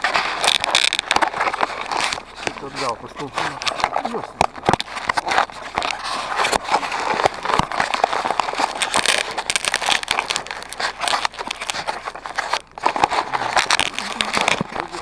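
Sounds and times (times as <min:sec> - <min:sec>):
snow crunching under boots: 0:00.0 - 0:15.0.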